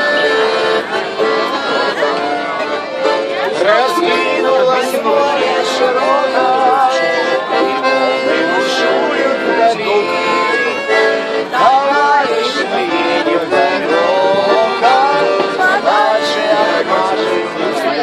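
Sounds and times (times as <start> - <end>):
accordion playing folk tune: 0.0 - 18.0
man and woman singing: 3.5 - 18.0.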